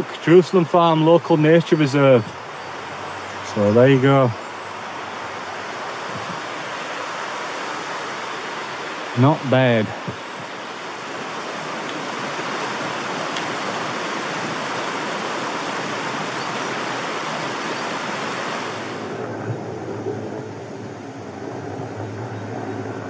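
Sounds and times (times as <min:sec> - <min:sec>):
distant helicopter hum: 0:00.0 - 0:23.0
stream rushing: 0:00.0 - 0:23.0.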